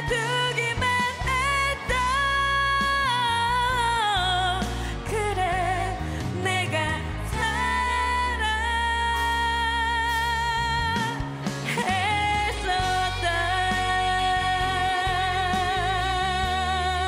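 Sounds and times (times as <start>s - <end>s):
band accompaniment: 0.0s - 17.0s
woman singing a ballad: 0.0s - 17.0s.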